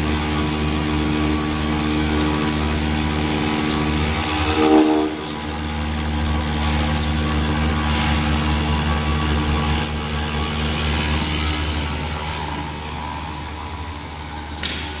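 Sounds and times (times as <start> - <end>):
foam router cutting foam: 0.0 - 15.0.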